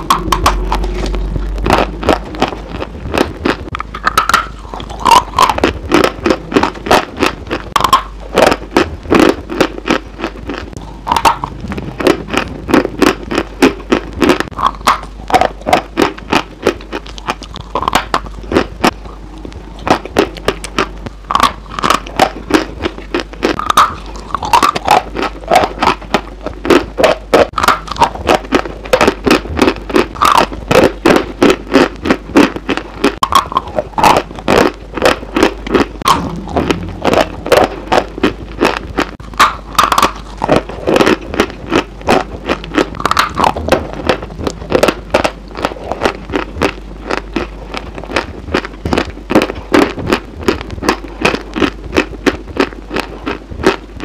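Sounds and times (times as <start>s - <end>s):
chewing crisp food: 0.0s - 54.0s.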